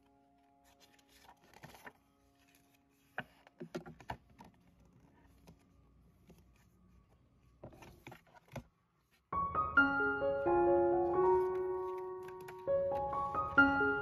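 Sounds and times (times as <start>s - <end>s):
soft paper rustles: 0.0s - 9.3s, 11.0s - 14.0s.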